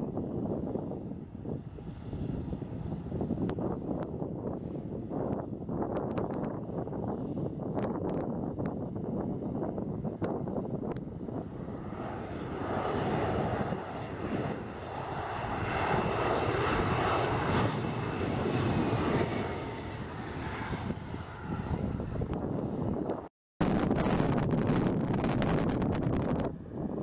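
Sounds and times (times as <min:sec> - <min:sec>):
jet engines at takeoff power: 0:00.0 - 0:27.0.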